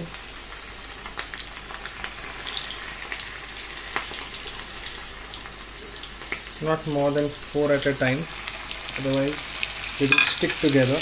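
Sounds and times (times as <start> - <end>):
prawns deep-frying in oil: 0.0 - 11.0.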